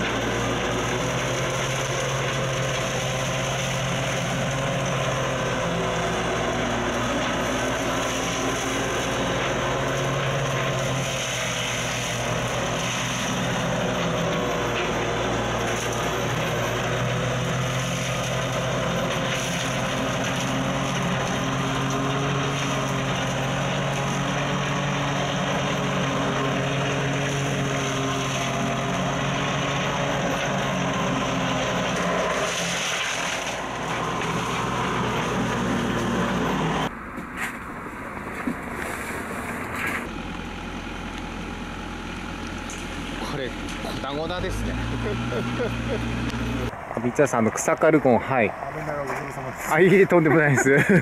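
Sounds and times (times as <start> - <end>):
excavator engine running: 0.0 - 51.0
flail mower shredding brush: 0.0 - 51.0.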